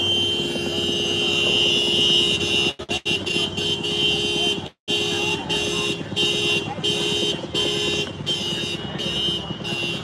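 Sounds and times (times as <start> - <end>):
car horn honking: 0.0 - 10.0.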